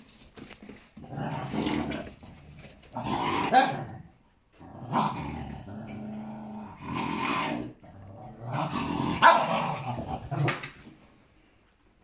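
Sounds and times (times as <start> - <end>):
dog growling and snarling: 1.0 - 10.6.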